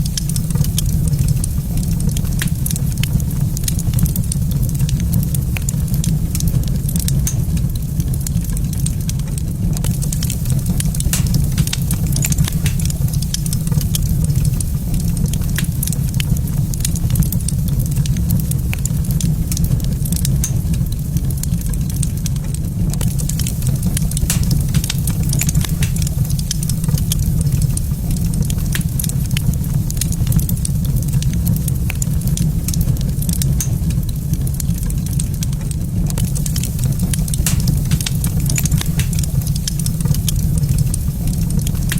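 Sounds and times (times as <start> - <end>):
low fire rumble: 0.0 - 41.9
wood fire crackling: 0.0 - 41.9.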